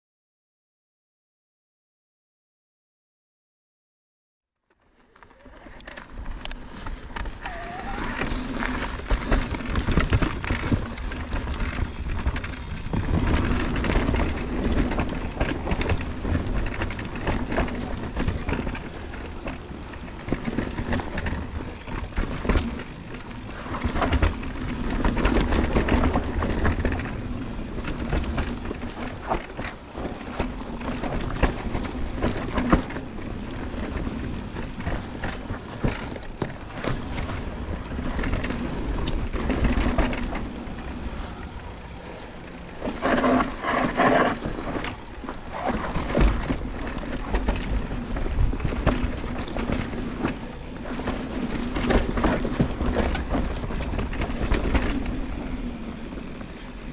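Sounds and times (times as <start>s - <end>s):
bike rattling over bumps: 4.7s - 56.9s
bike tyres rolling on dirt: 4.7s - 56.9s.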